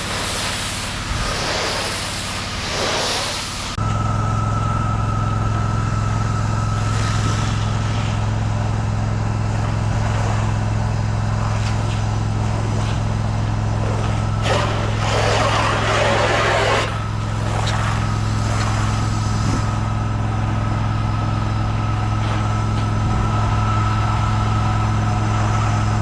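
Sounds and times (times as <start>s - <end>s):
hissing water spray: 0.0s - 3.8s, 5.8s - 23.3s
pressure washer engine running: 0.0s - 26.0s.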